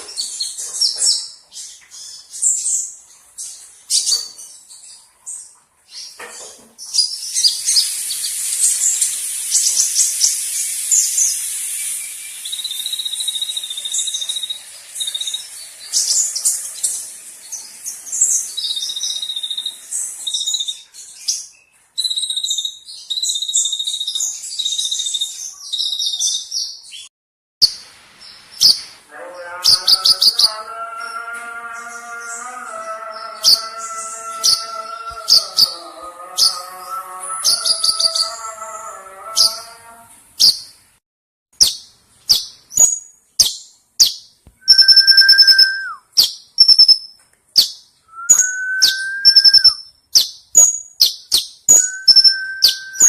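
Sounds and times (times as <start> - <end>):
bird twittering and trilling: 0.0 - 39.8, 41.6 - 53.0.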